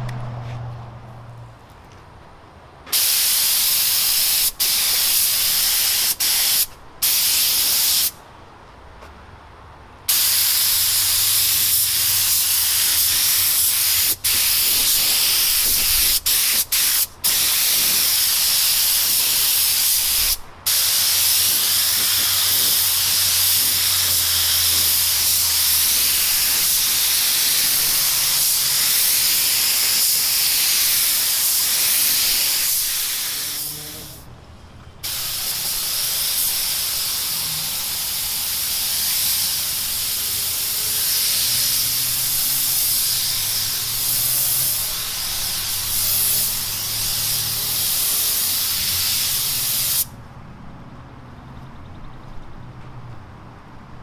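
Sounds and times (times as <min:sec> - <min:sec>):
spray gun hissing: 0:02.9 - 0:08.2, 0:10.1 - 0:34.2, 0:35.0 - 0:50.1.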